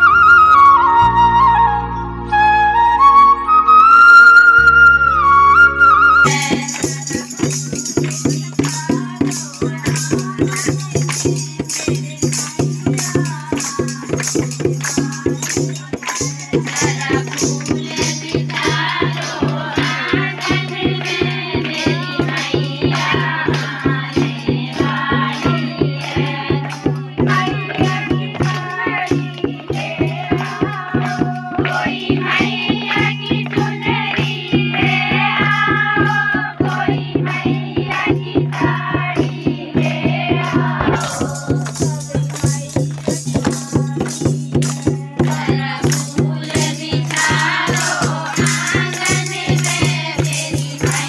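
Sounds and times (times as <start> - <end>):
hand claps: 6.2 - 51.0
percussion: 6.2 - 51.0
women singing together: 6.3 - 51.0.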